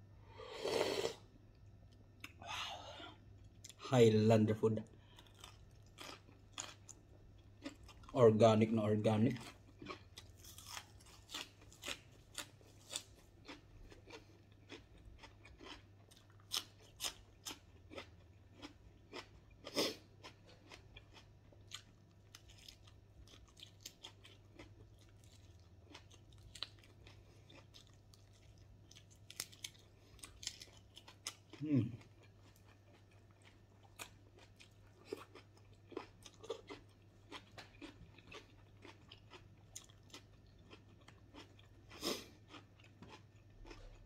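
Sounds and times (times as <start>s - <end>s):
man chewing crunchy food: 4.9s - 8.2s, 9.2s - 44.0s.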